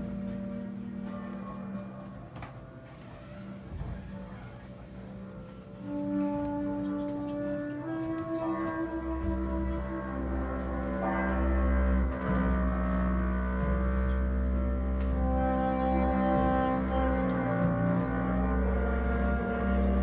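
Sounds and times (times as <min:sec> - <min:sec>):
saxophone long notes: 0:00.0 - 0:04.2, 0:05.1 - 0:20.0
double bass: 0:00.0 - 0:20.0.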